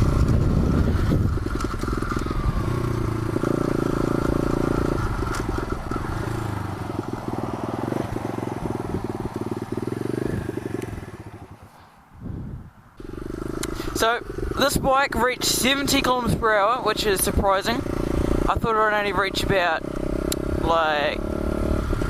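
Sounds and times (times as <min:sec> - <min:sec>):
motorbike engine revving: 0:00.0 - 0:11.8, 0:13.0 - 0:22.0.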